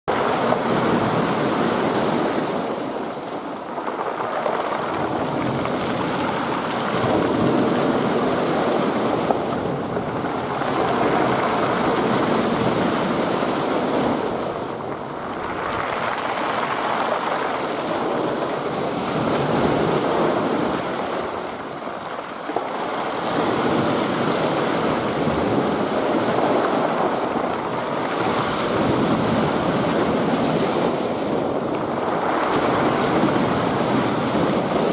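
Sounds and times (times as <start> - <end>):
waves breaking on the shore: 0.1 - 34.9.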